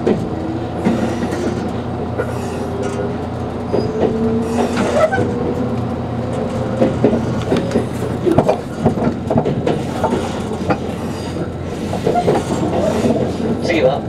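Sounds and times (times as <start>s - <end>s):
train wheels rumbling: 0.0s - 14.0s
wheels clicking over rail joints: 0.0s - 14.0s.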